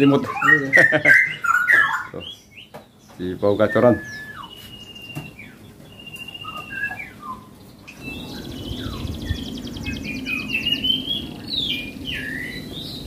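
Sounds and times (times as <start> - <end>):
songbirds singing: 0.0 - 13.0
steady background noise: 0.0 - 13.0.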